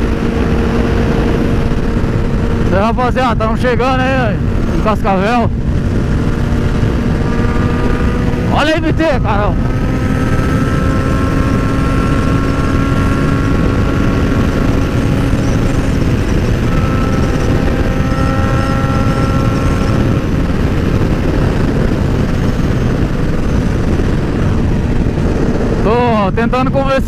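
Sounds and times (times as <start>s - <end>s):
motorcycle engine drone: 0.0s - 27.0s
wind rushing over microphone: 0.0s - 27.0s.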